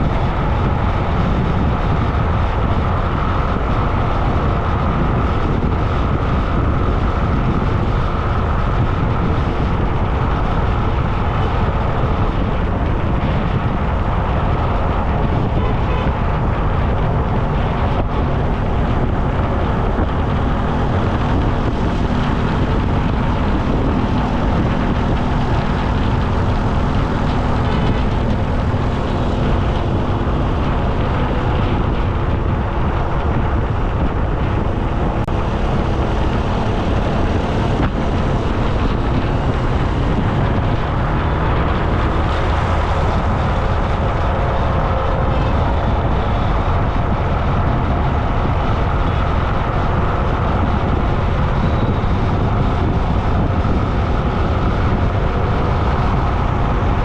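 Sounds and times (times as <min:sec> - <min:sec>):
faint low engine hum: 0:00.0 - 0:57.0
traffic noise: 0:00.0 - 0:57.0
wind rushing: 0:00.0 - 0:57.0.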